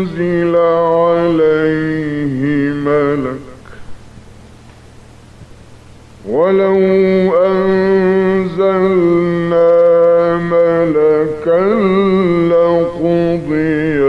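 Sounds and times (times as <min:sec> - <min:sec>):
man chanting melodically: 0:00.0 - 0:03.9, 0:06.2 - 0:14.0.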